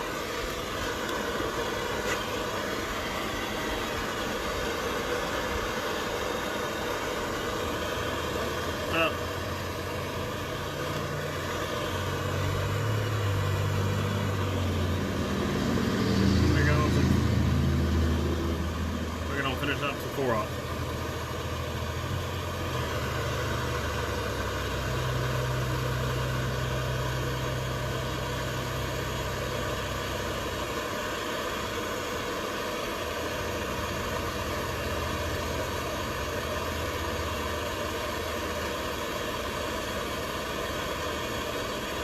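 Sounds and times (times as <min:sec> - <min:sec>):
hiss: 0:00.0 - 0:42.0
low mechanical hum: 0:00.0 - 0:42.0.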